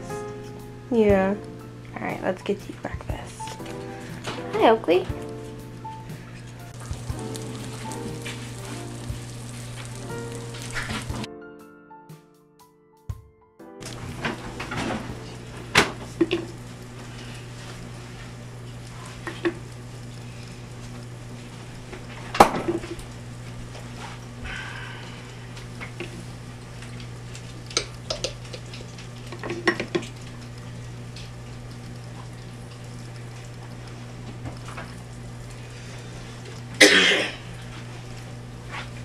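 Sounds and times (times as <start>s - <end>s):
steady low hum: 0.0s - 11.3s, 13.8s - 39.0s.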